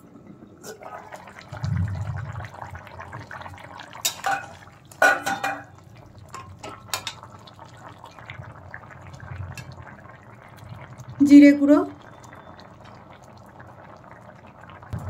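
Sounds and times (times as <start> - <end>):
curry bubbling in a pan: 0.7 - 15.0.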